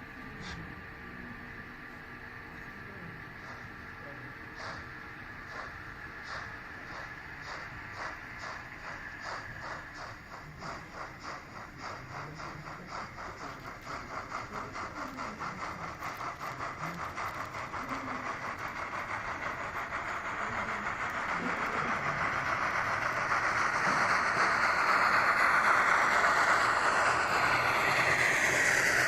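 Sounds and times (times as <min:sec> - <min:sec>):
steam locomotive exhaust chuffs: 0:00.0 - 0:29.0.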